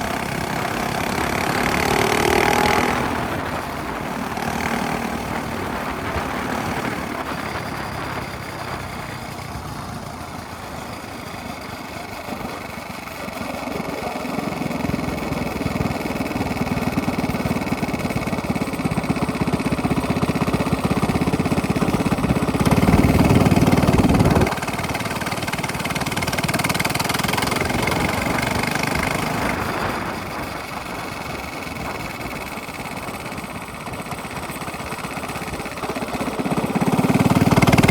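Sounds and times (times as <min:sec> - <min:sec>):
minibike engine running: 0:00.0 - 0:37.9.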